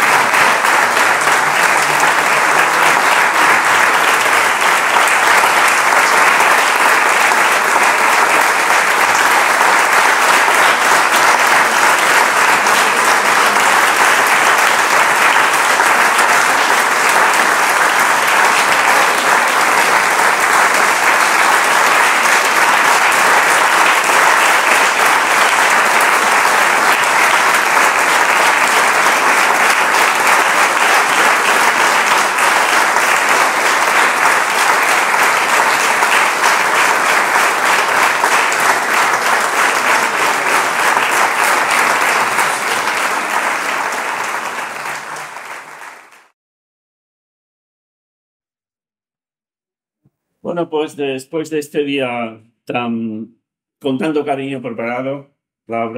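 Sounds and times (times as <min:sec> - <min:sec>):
audience applauding: 0:00.0 - 0:46.4.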